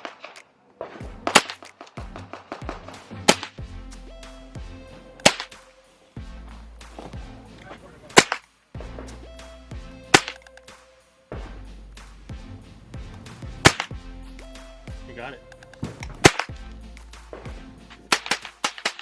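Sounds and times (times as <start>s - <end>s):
background music: 1.0s - 19.0s.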